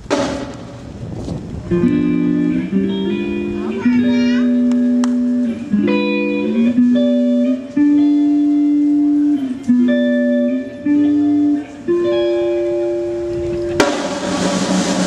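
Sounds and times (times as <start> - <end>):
slow melody of held notes: 1.8 - 14.0.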